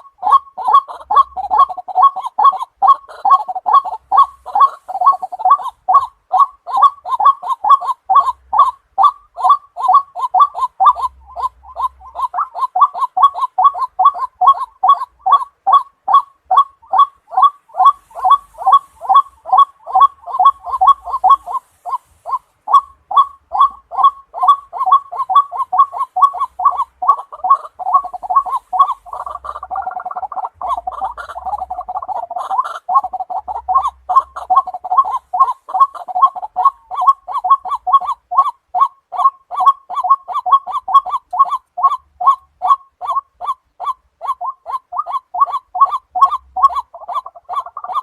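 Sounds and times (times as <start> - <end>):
waterhen croaking calls: 0.0 - 48.0.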